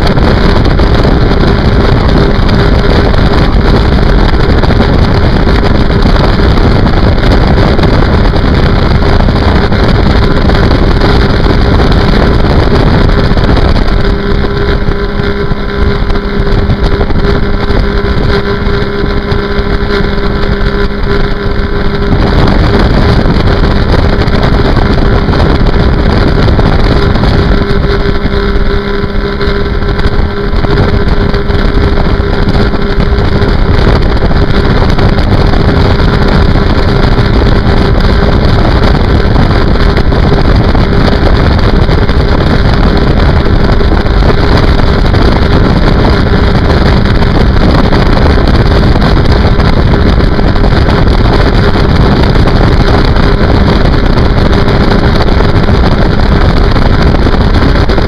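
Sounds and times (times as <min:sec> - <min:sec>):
personal watercraft engine drone: 0:00.0 - 0:58.0.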